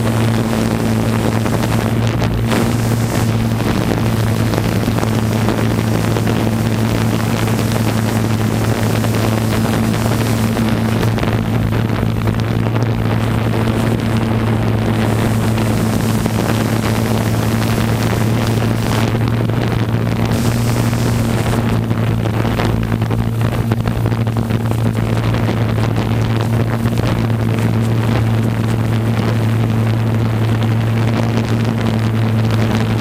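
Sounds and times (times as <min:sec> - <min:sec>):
drone motors humming: 0:00.0 - 0:33.0.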